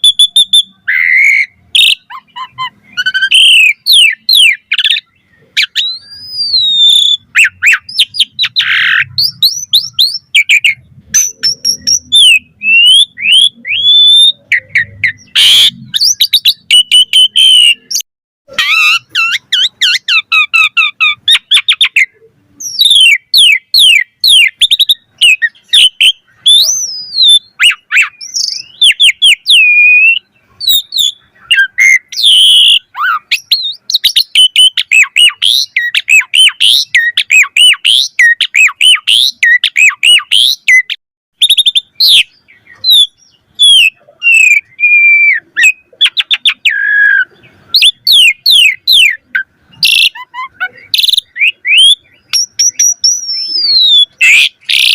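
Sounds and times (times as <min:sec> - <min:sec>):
starling singing: 0:00.0 - 0:54.9.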